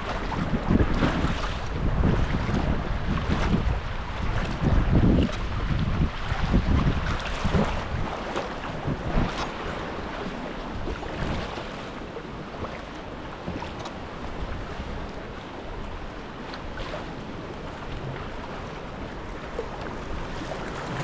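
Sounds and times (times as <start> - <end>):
water lapping and splashing: 0.0 - 21.0
wind buffeting microphone: 0.0 - 21.0.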